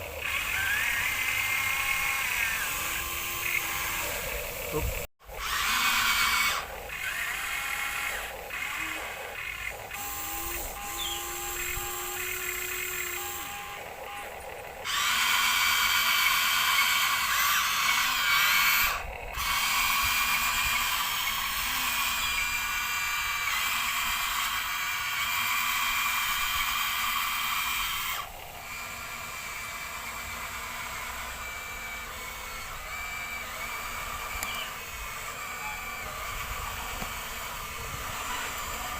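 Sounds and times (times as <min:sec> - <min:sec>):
toy electric motor whirring: 0:00.0 - 0:38.9.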